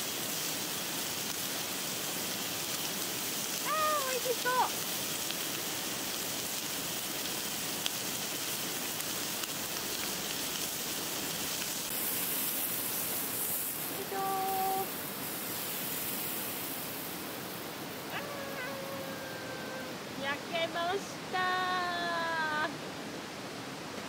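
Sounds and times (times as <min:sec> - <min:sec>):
meat sizzling on a grill: 0:00.0 - 0:21.1.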